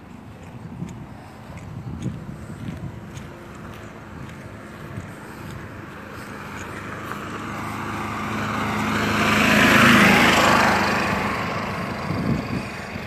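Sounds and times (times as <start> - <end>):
vehicle engine passing by: 0.2 - 13.0.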